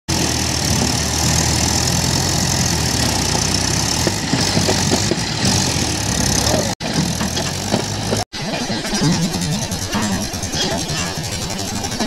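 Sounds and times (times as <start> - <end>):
tractor diesel engines running: 0.1 - 12.0.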